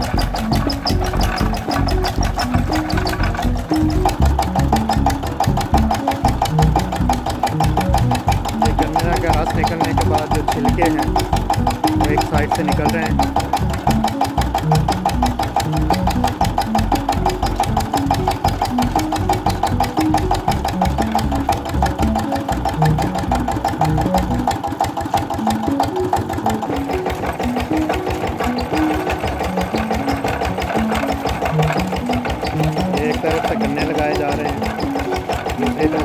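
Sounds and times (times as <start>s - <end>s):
diesel engine chugging: 0.0s - 36.0s.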